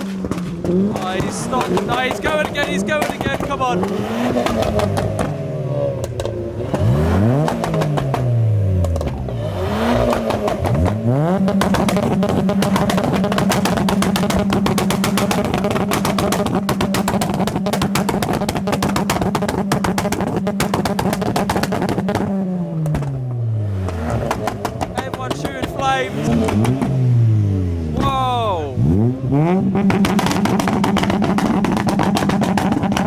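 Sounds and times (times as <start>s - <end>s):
car engine revving: 0.0s - 33.0s
exhaust crackling: 0.0s - 33.0s.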